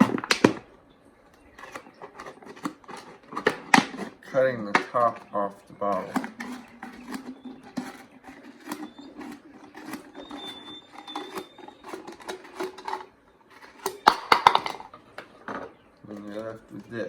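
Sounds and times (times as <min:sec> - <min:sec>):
scissors snipping plastic: 0:00.0 - 0:00.7, 0:01.4 - 0:14.9.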